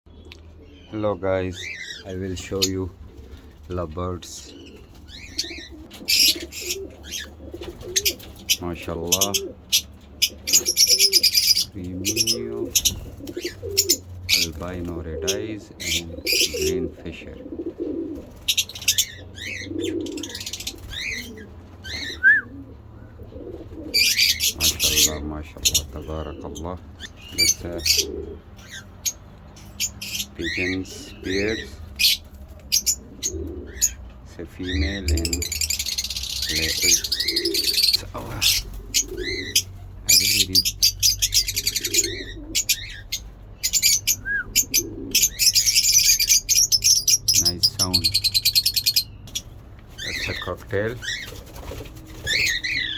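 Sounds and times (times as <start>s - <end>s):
lovebirds chirping: 0.1s - 52.9s
pigeons cooing: 0.1s - 52.9s.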